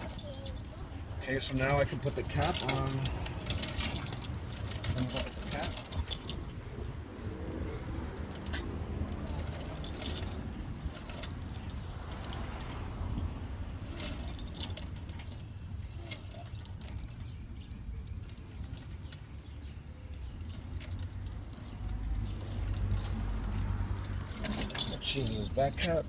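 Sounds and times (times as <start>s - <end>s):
small metal parts clinking: 0.0s - 12.9s, 13.8s - 17.3s, 18.0s - 19.6s, 20.2s - 26.0s.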